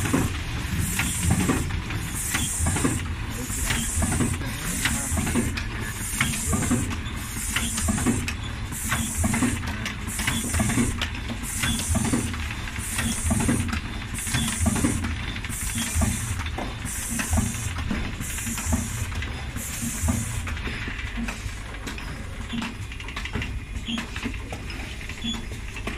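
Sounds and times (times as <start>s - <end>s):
machine clicks and knocks: 0.0s - 25.9s.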